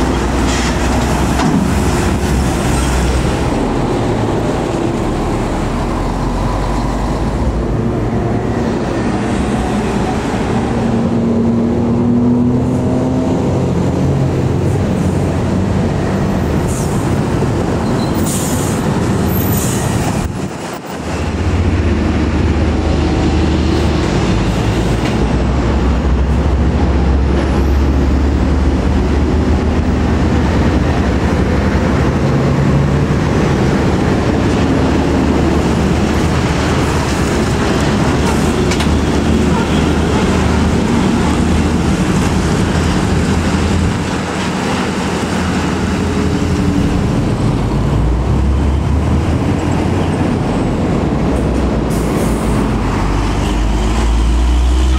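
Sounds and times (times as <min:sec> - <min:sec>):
diesel trucks driving past: 0:00.0 - 0:54.9
tyre noise on road: 0:00.0 - 0:54.9.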